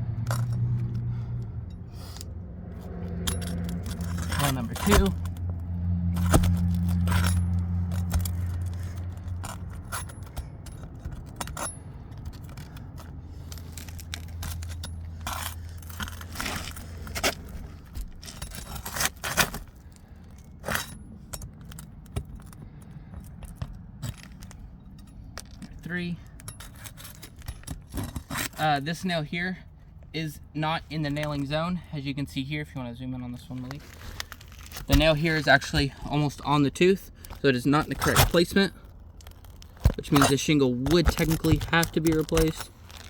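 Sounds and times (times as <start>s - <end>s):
low steady hum: 0.0s - 43.0s
pry bar scraping on shingles: 0.1s - 31.8s, 33.4s - 43.0s.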